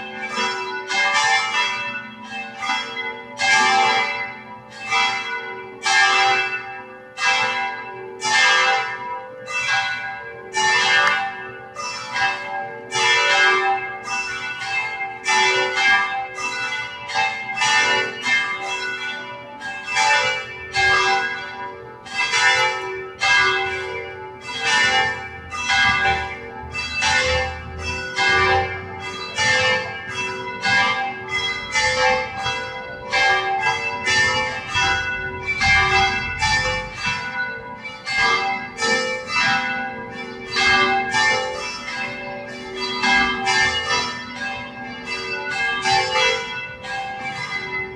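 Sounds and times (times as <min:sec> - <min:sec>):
church bells ringing a peal: 0:00.0 - 0:47.9.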